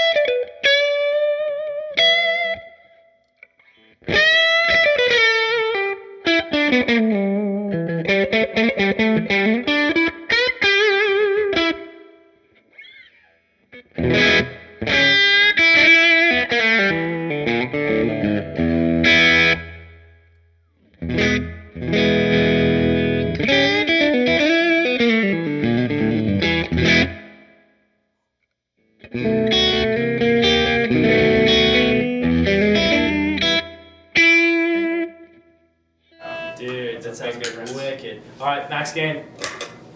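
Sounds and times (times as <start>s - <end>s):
overdriven electric guitar: 0.0s - 27.6s, 28.9s - 35.5s.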